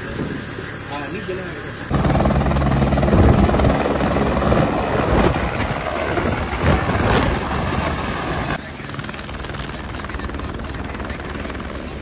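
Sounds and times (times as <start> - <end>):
helicopter rotor beating: 0.0 - 12.0
helicopter turbine whine: 0.0 - 12.0.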